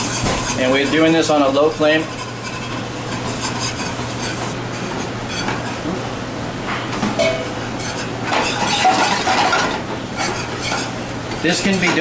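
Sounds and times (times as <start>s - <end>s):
whisk scraping swish in pan: 0.0s - 5.8s, 7.6s - 12.0s
steady low hum: 0.0s - 12.0s.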